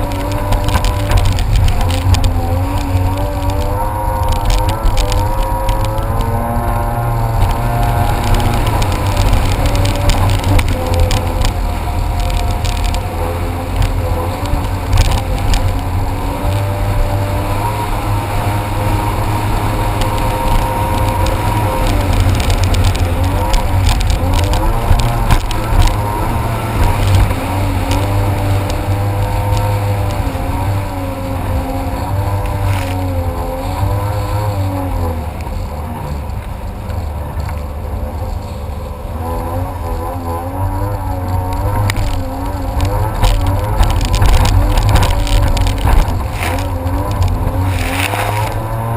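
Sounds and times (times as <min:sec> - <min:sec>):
jet ski engine whine: 0:00.0 - 0:48.9
wind rumble on microphone: 0:00.0 - 0:48.9.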